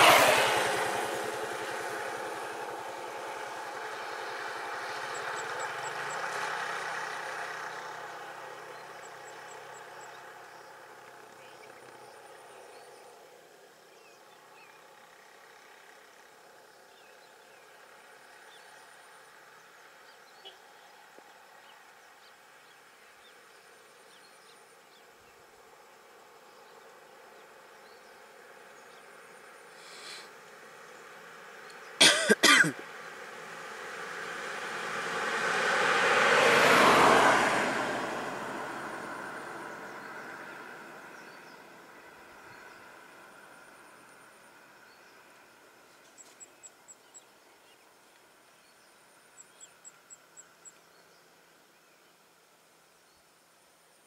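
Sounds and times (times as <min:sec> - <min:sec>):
vehicle passing by: 0:00.0 - 0:32.0, 0:32.8 - 0:47.2
low steady hiss: 0:00.0 - 0:54.0.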